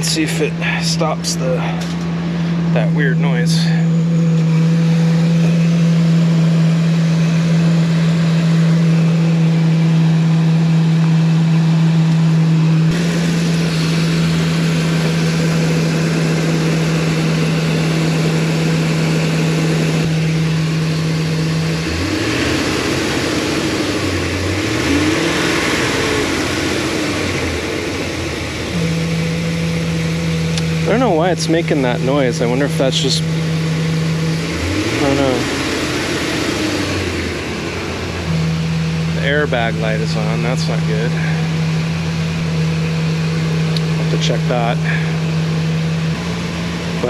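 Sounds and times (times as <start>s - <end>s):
steady droning tone: 0.0s - 47.0s
van engine idling: 0.0s - 47.0s.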